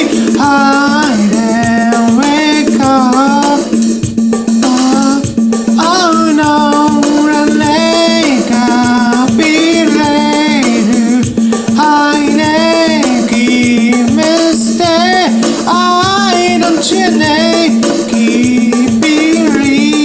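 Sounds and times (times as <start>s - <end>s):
man singing: 0.0s - 3.8s, 4.5s - 20.0s
keyboard rhythm pattern: 0.0s - 20.0s
shaker percussion beat: 0.0s - 20.0s.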